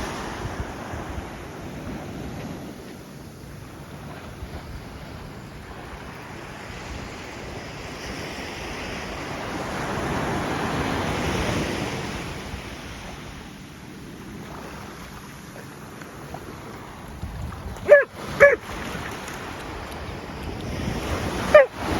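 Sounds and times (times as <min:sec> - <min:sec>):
sea waves breaking on beach: 0:00.0 - 0:21.9.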